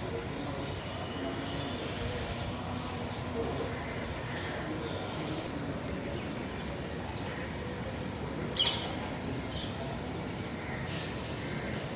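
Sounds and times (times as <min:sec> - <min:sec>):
steady background noise: 0:00.0 - 0:11.9.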